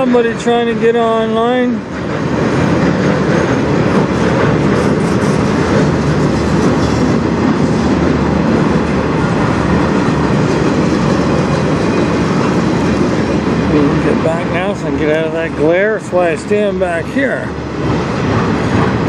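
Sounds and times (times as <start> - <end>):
steel wheels rolling on rail: 0.0 - 19.0.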